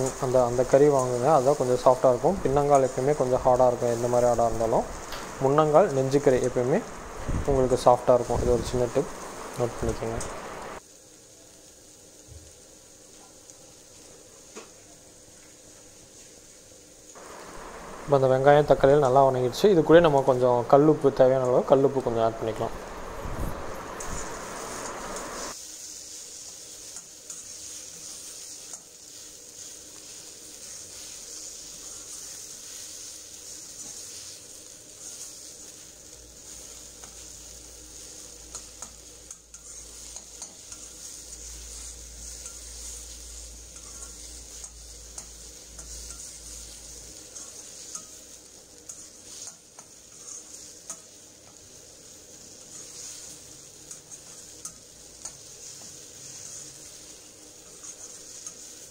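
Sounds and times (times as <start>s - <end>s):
masala sizzling in oil: 0.0s - 58.9s.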